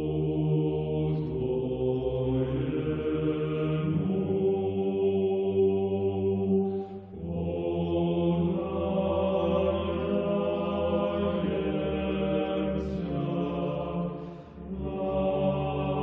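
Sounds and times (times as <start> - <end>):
voices chanting: 0.0 - 16.0.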